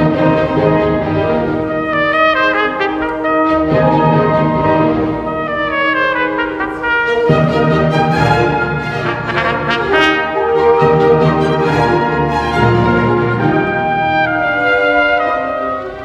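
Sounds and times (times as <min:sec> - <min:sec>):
brass music led by trumpet: 0:00.0 - 0:16.0.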